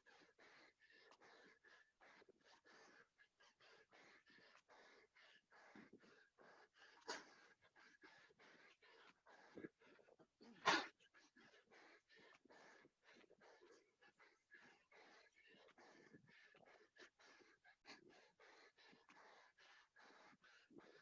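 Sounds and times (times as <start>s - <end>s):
heavy breathing: 0.0s - 21.0s.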